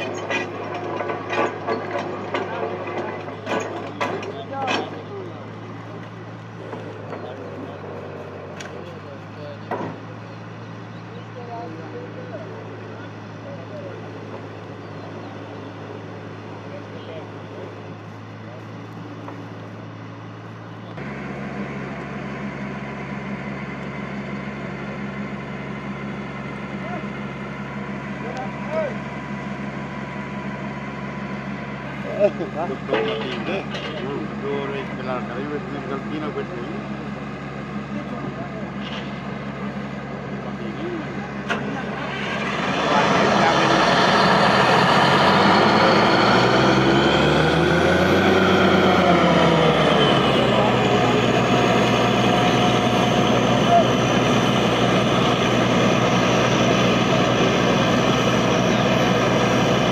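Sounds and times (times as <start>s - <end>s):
drilling rig engine running: 0.0s - 59.9s.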